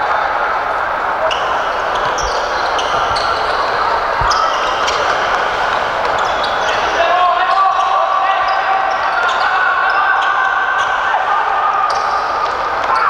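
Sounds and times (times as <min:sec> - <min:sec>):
crowd murmur: 0:00.0 - 0:13.0
shoes squeaking on court floor: 0:00.8 - 0:13.0.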